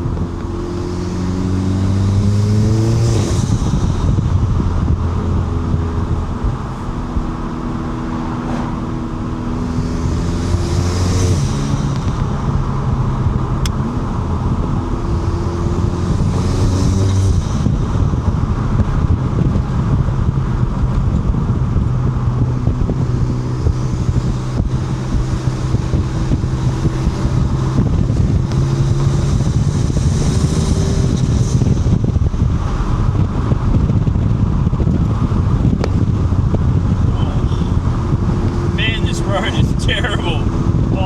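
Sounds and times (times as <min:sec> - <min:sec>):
car engine revving: 0:00.0 - 0:41.0
road noise: 0:00.0 - 0:41.0
wind noise: 0:00.0 - 0:41.0.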